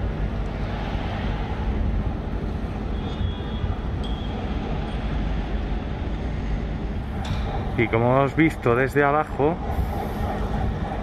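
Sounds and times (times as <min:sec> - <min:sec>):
building site rumble: 0:00.0 - 0:11.0.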